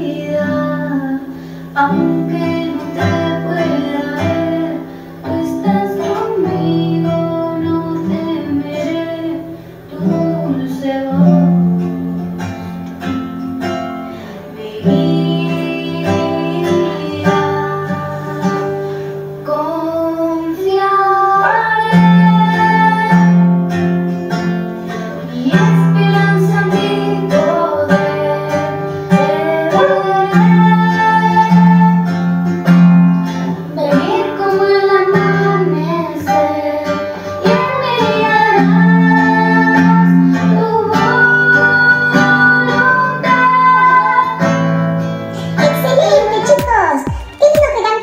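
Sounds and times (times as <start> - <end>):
young woman singing: 0.0 - 11.9, 14.3 - 23.6, 25.1 - 32.3, 33.4 - 44.7, 45.4 - 48.0
acoustic guitar: 0.0 - 48.0.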